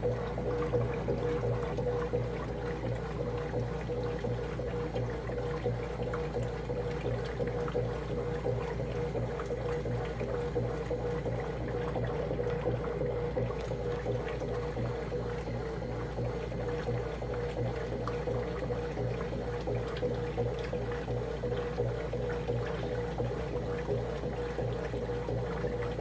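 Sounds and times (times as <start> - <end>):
water pouring into washer tub: 0.0 - 26.0.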